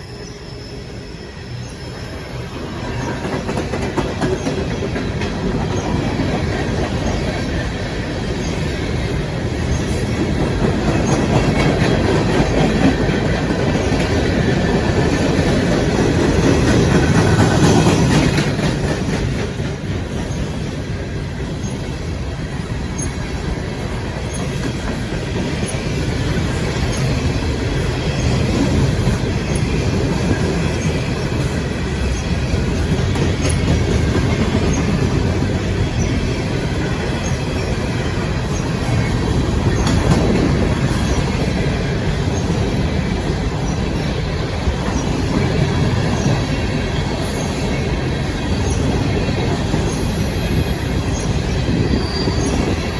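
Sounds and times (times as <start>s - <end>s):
steel wheels rumbling on rails: 0.0s - 52.9s.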